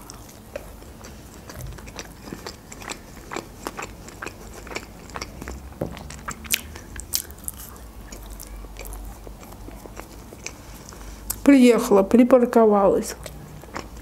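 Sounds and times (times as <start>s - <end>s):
person chewing and crunching: 0.0s - 11.5s, 13.2s - 14.0s.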